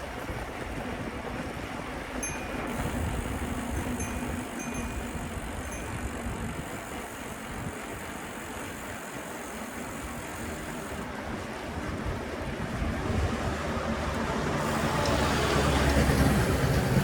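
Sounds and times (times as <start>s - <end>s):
street traffic rushing: 0.0s - 17.0s
wind rumbling on microphone: 0.0s - 17.0s.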